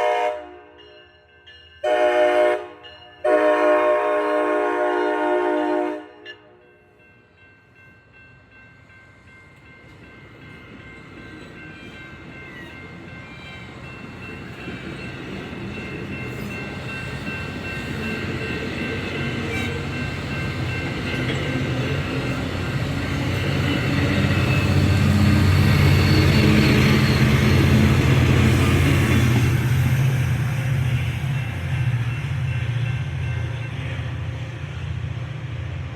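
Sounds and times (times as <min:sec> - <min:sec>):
train passing rumble: 0:00.0 - 0:35.9.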